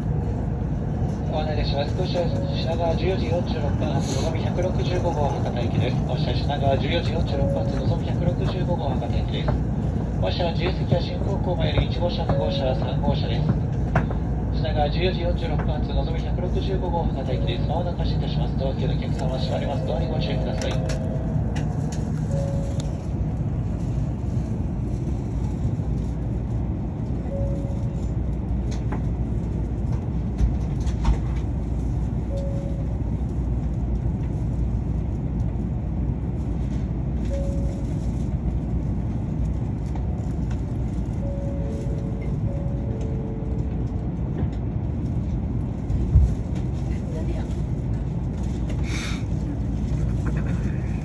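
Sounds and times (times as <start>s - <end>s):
train machinery rumble: 0.0s - 51.0s.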